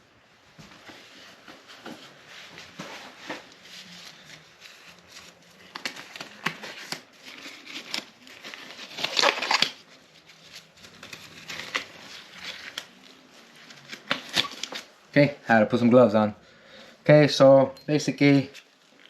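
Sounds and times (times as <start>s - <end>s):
gloves rustling and crinkling: 0.5s - 15.1s, 18.0s - 19.0s.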